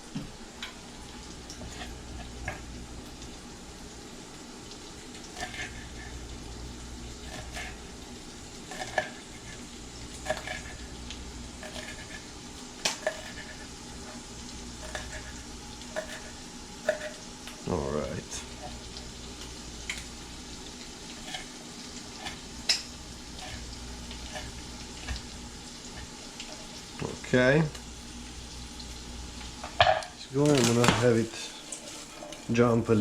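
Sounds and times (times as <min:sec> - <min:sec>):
food sizzling in a pan: 0:00.0 - 0:33.0.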